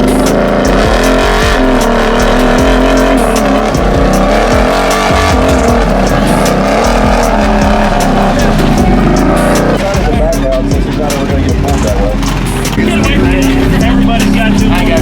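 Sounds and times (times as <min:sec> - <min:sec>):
engines running at high revs: 0:00.0 - 0:15.0.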